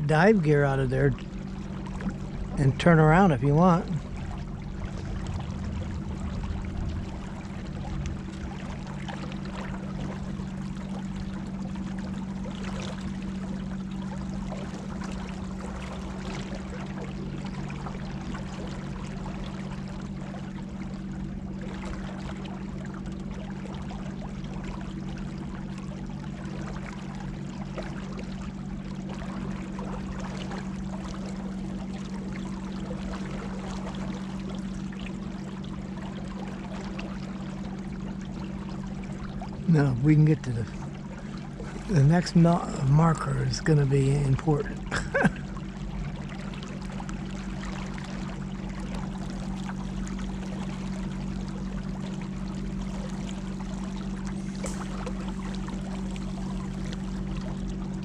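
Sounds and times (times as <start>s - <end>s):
water splashing along hull: 0.0s - 58.0s.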